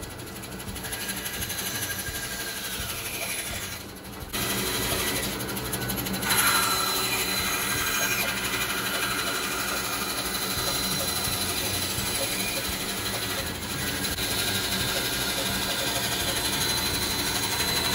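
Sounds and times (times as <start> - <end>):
bandsaw cutting plywood: 0.7 - 17.9.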